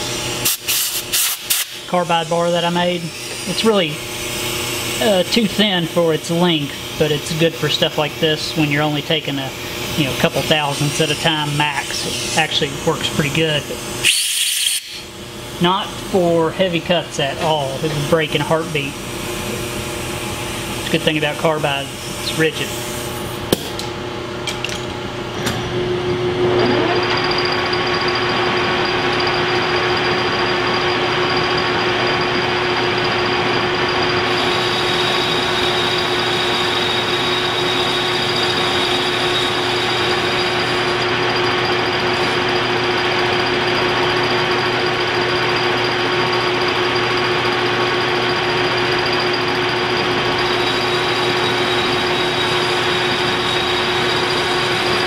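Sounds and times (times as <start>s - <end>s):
lathe whine: 1.8s - 55.0s.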